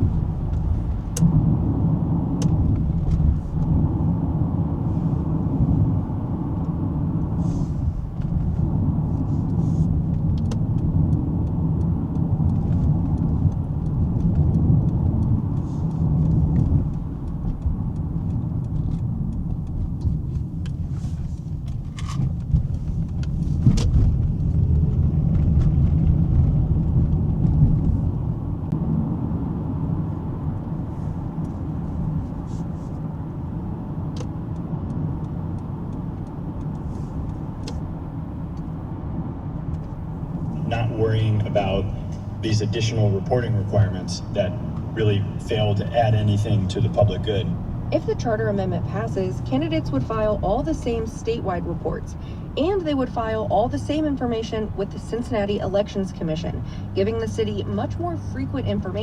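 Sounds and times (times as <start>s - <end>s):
car cabin road and engine rumble: 0.0s - 59.0s.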